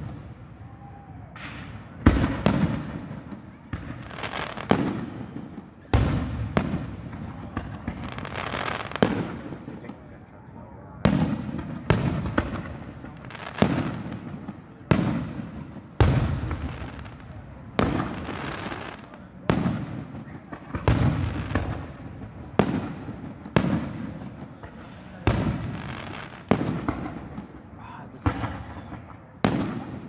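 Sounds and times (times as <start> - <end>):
fireworks booming: 0.0 - 30.0.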